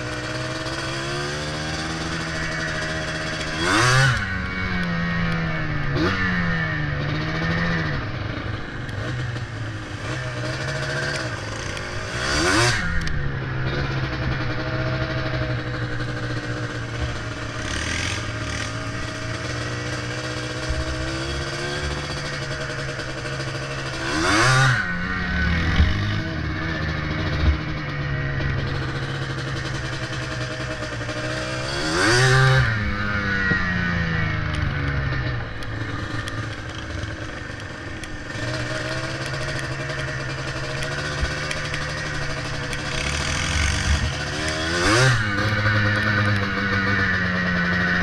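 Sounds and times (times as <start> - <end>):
two-stroke quad engine revving: 0.0 - 48.0.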